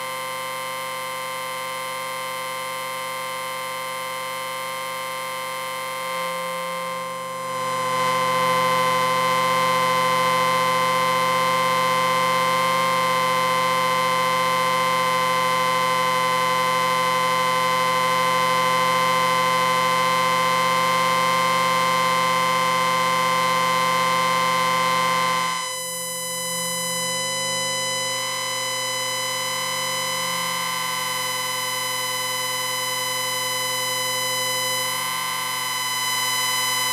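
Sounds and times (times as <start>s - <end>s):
synthesized buzzing drone: 0.0s - 36.9s.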